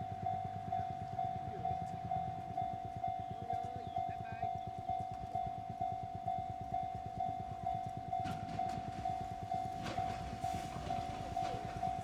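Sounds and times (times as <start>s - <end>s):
level-crossing warning bell ringing: 0.0s - 12.0s.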